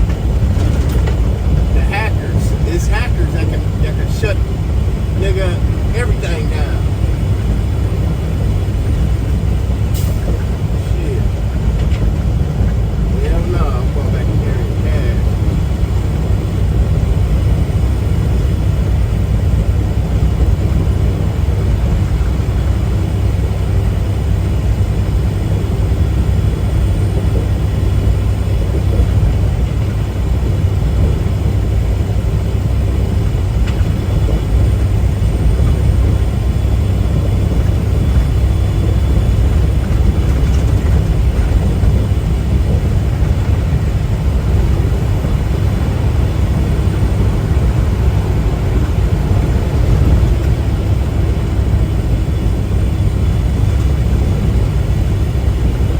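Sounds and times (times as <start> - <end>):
road noise: 0.0 - 55.9
truck engine rumble: 0.0 - 55.9.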